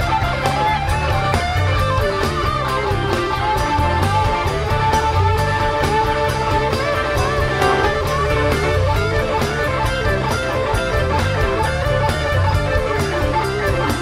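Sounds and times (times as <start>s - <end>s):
bass guitar: 0.0s - 14.0s
steady drum beat: 0.0s - 14.0s
lead electric guitar bending notes: 0.1s - 14.0s.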